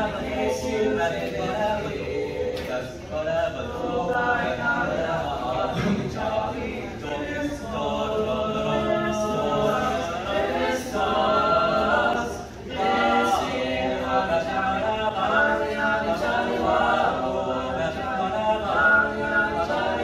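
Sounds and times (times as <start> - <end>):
boys singing a cappella: 0.0 - 20.0.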